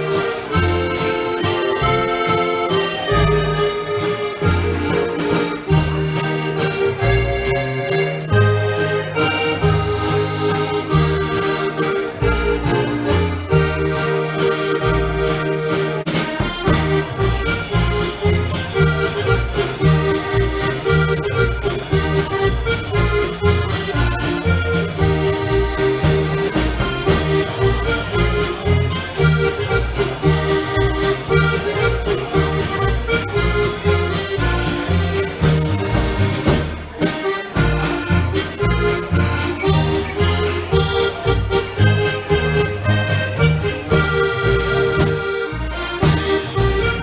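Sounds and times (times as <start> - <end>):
drum kit: 0.0 - 45.2, 46.0 - 47.0
accordion melody: 0.0 - 47.0.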